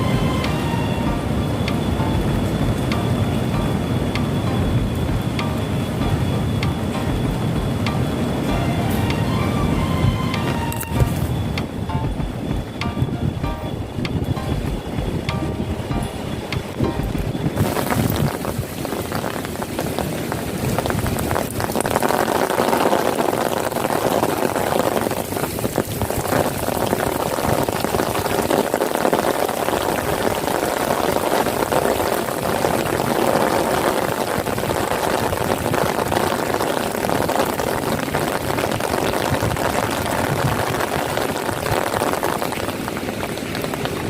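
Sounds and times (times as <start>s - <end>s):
rain on wet pavement: 0.0s - 44.0s.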